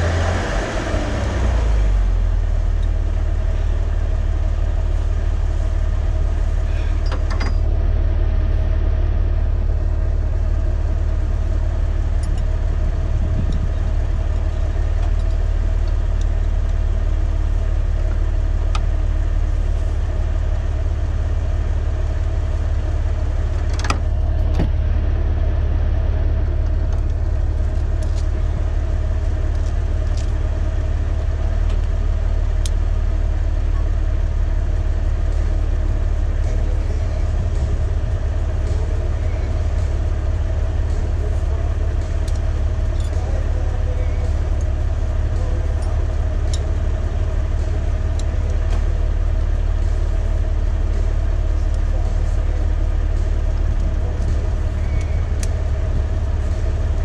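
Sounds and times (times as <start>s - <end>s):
engine idling deep rumble: 0.0s - 57.0s.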